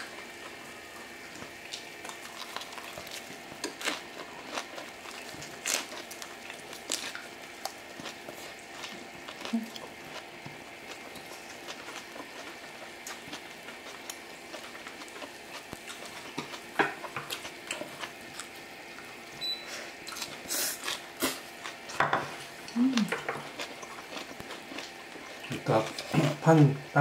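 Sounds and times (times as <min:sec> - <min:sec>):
chewing: 0:01.3 - 0:19.2, 0:20.0 - 0:22.0, 0:22.6 - 0:26.4.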